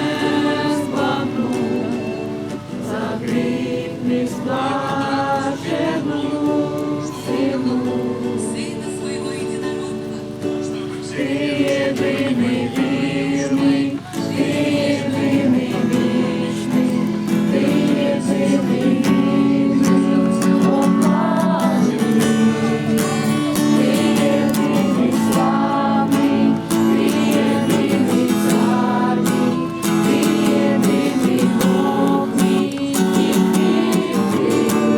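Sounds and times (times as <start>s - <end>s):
group of people singing: 0.0s - 34.9s
strummed acoustic guitar: 0.0s - 34.9s.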